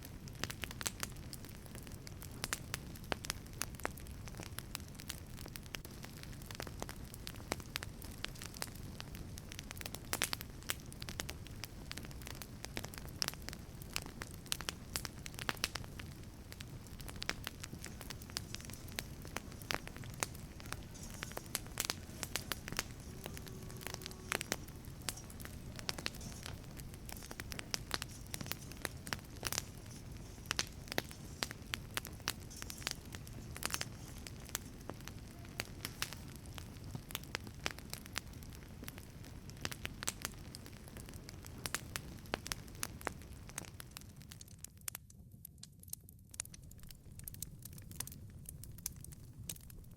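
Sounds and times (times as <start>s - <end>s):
low steady rushing of fire: 0.0s - 49.9s
wood fire crackling and popping: 0.0s - 49.9s.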